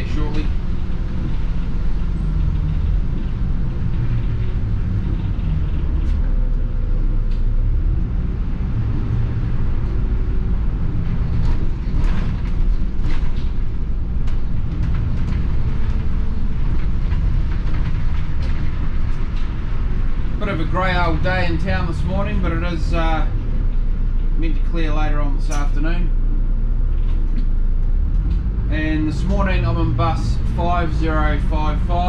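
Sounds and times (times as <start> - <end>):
bus diesel engine rumble: 0.0 - 32.0
road noise: 0.0 - 32.0.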